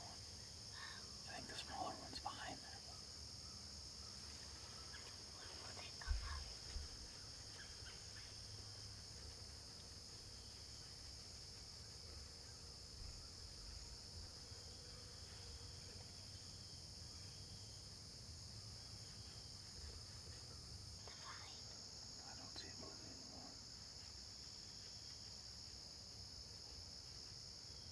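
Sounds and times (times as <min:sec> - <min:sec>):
crickets and insects chirping: 0:00.0 - 0:27.9.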